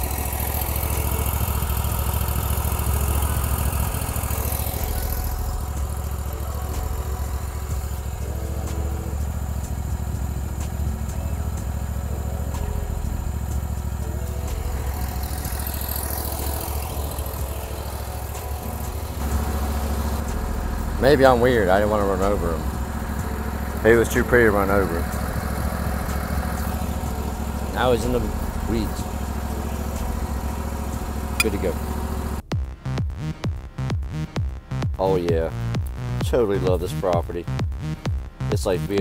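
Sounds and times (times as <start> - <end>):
mower engine running: 0.0 - 32.5.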